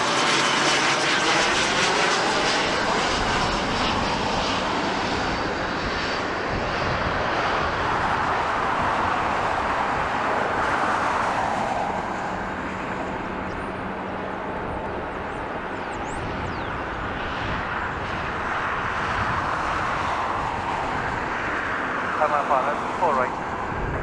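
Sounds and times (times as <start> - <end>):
jet airliner engine rush: 0.0 - 24.0.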